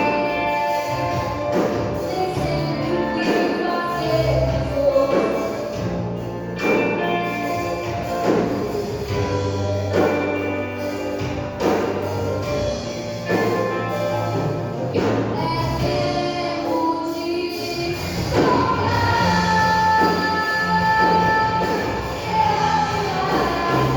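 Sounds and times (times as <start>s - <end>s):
gospel band playing: 0.0s - 23.9s.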